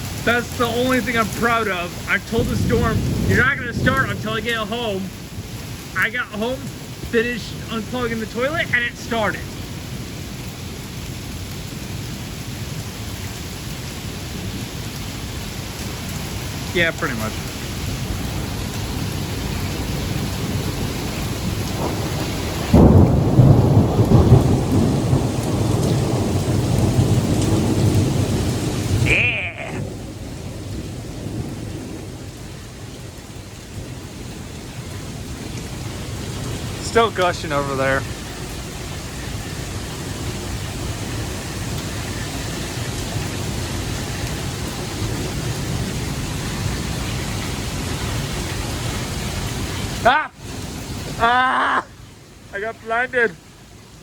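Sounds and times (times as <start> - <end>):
thunder clap and rumble: 0.0 - 51.3
heavy rain: 0.0 - 54.0.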